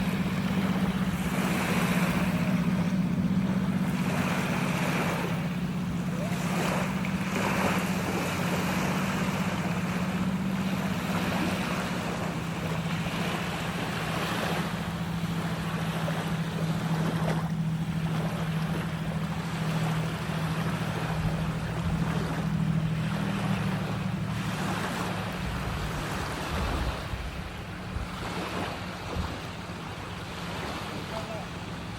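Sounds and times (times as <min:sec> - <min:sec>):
low motor hum: 0:00.0 - 0:31.9
water rushing and splashing: 0:00.0 - 0:31.9.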